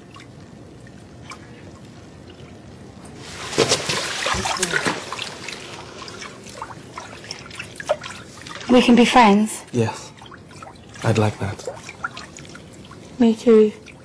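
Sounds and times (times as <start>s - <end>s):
faint water dripping: 0.0s - 3.4s, 4.0s - 14.0s
bathwater sloshing and splashing: 0.0s - 14.0s.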